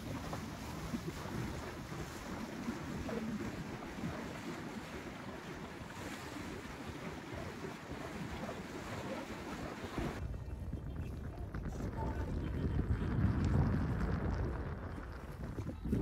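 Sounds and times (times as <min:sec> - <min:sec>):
low wind rumble: 0:00.0 - 0:16.0
sea water splashing along hull: 0:00.0 - 0:16.0
wind buffeting microphone: 0:00.0 - 0:16.0.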